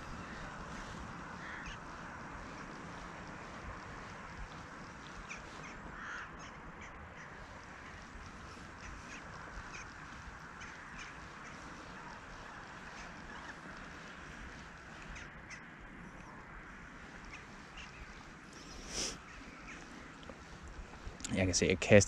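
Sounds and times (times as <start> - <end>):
faint crow-like bird calls: 0.0 - 21.2
steady background hiss: 0.0 - 22.0.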